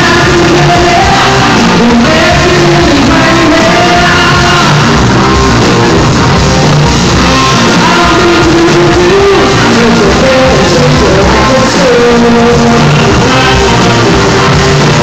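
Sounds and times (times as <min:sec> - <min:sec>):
person singing: 0:00.0 - 0:05.4, 0:07.4 - 0:15.0
funk-rock band playing: 0:00.0 - 0:15.0.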